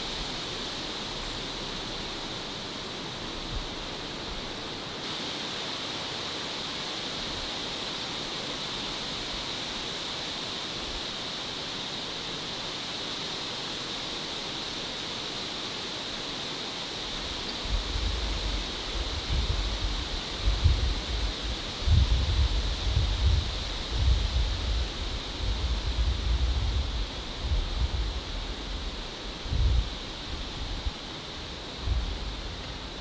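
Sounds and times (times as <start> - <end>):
background hiss: 0.0 - 33.0.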